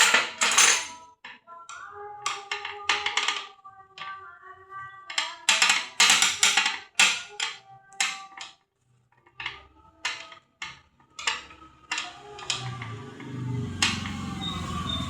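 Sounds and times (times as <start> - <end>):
metal parts knocking and clinking: 0.0 - 1.4, 2.3 - 4.2, 5.1 - 8.6, 9.2 - 15.0.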